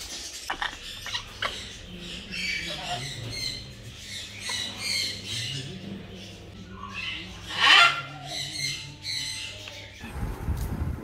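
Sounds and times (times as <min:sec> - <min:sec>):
birds chirping and calling: 0:00.0 - 0:10.3.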